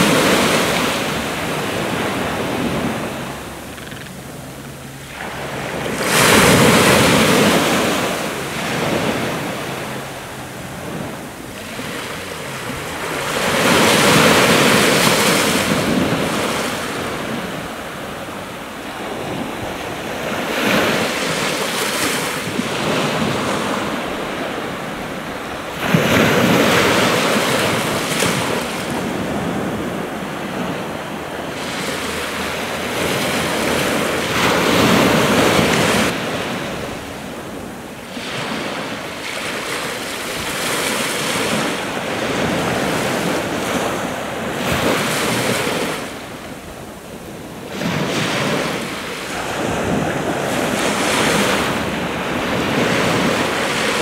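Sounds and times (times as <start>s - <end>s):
sea waves breaking: 0.0s - 54.0s.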